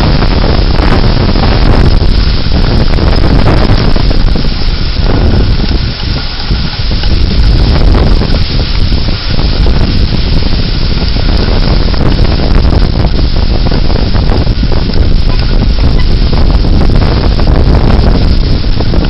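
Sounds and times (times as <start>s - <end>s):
strong wind gusting: 0.0s - 19.0s
wind buffeting microphone: 0.0s - 19.0s.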